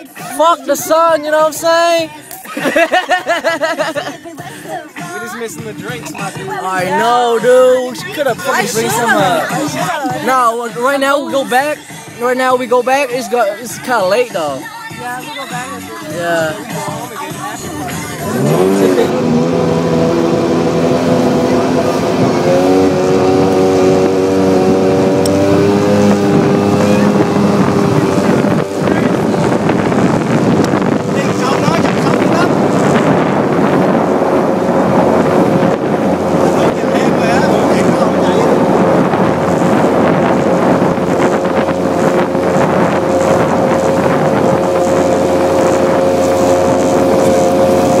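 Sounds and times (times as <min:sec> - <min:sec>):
motorboat engine droning: 0:00.0 - 0:48.0
water rushing: 0:00.0 - 0:48.0
wind on microphone: 0:03.3 - 0:48.0.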